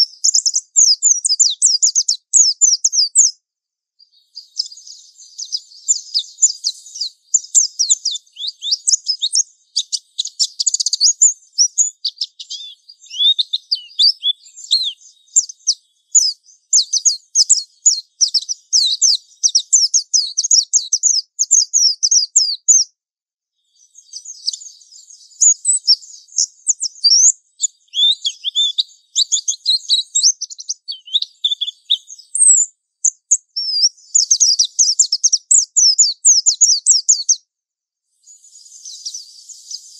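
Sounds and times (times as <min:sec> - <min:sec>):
bird twittering and warbling: 0:00.0 - 0:03.4, 0:04.0 - 0:22.9, 0:23.6 - 0:37.4, 0:38.2 - 0:39.9.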